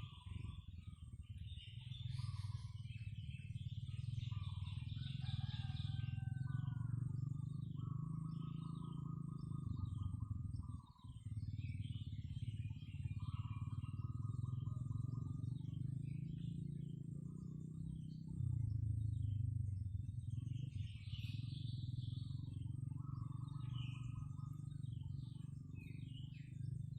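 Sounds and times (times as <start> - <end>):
bird trills: 0.0 - 26.9
birds chirping and calling: 0.0 - 26.9
steady low rumble: 0.0 - 26.9.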